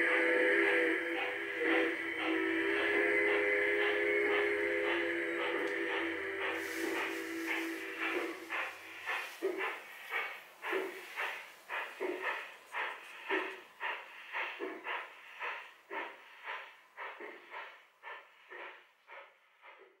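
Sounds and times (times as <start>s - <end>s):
model steam locomotives chuffing: 0.0s - 20.0s.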